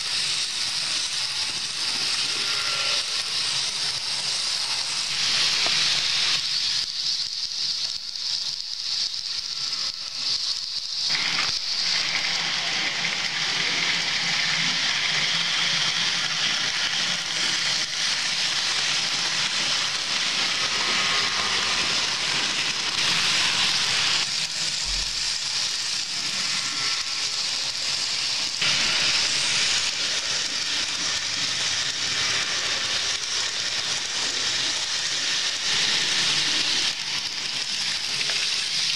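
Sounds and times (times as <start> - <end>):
model train wheels rattling: 0.0 - 38.9.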